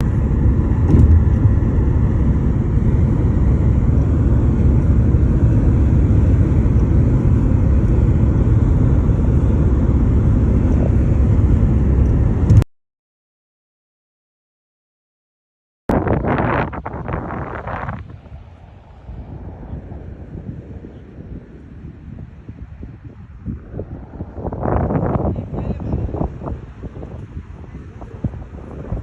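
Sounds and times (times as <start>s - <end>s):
low outdoor rumble: 0.0s - 12.7s, 15.9s - 29.0s.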